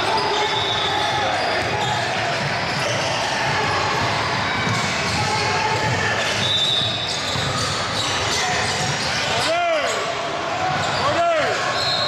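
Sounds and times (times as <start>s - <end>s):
indistinct voices in echoing hall: 0.0s - 12.0s.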